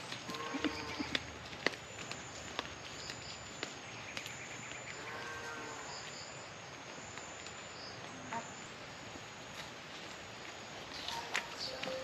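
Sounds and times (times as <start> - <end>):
insects trilling: 2.0 - 12.0.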